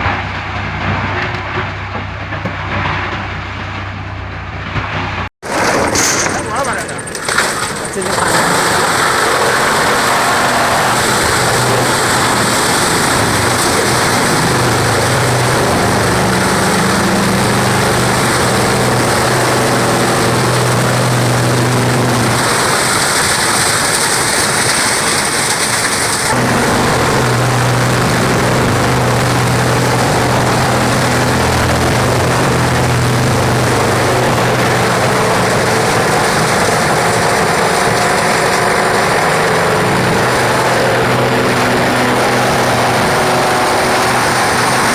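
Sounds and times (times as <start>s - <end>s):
wood chipper running: 0.0s - 44.9s.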